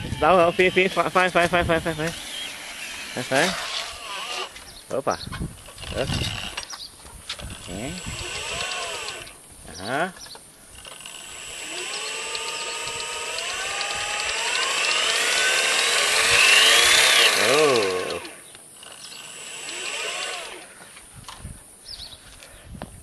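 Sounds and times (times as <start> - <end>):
electric motor whining: 0.0 - 4.8, 5.4 - 9.4, 10.7 - 21.0.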